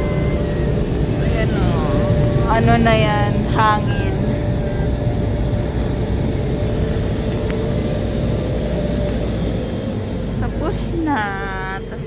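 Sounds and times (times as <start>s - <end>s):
air dryer rushing air: 0.0s - 12.0s
faint steady whine: 0.0s - 12.0s.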